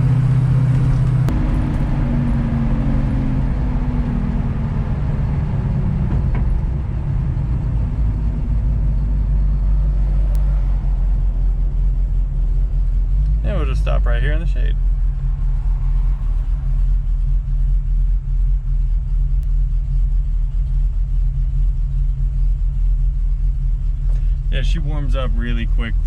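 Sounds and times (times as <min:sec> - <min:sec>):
car engine rumble from inside: 0:00.0 - 0:26.0.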